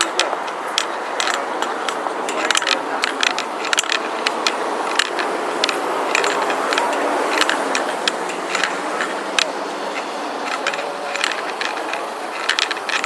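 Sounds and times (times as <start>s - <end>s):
sharp clicks and taps: 0.0s - 13.0s
traffic rumble: 0.0s - 13.0s.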